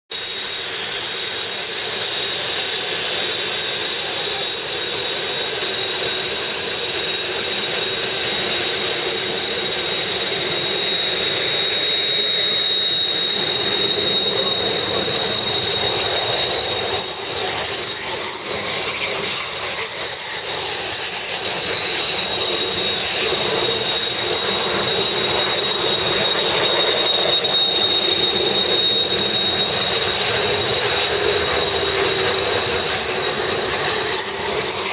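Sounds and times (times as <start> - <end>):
jet engine high-pitched whine: 0.1 - 34.9
jet engine rushing roar: 0.1 - 34.9.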